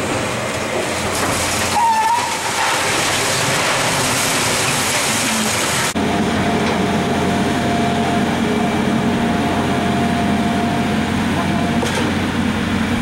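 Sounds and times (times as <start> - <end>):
diesel engine running: 2.4 - 13.0.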